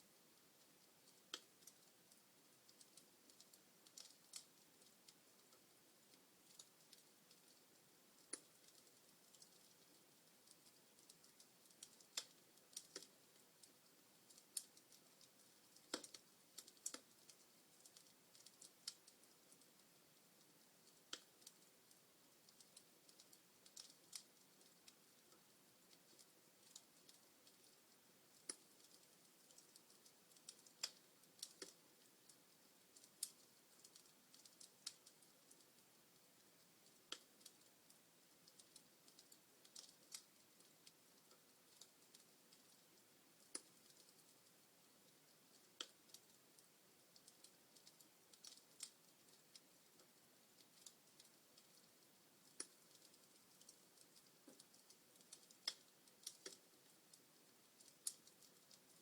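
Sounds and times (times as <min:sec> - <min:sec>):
faint steady hiss: 0:00.0 - 0:59.0
wood fire crackling: 0:00.0 - 0:59.0.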